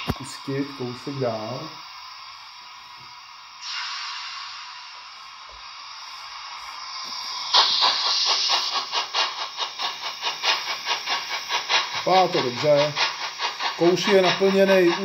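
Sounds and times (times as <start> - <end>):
rhythmic steam chuffing: 0.0 - 15.0
steam hiss: 0.0 - 15.0.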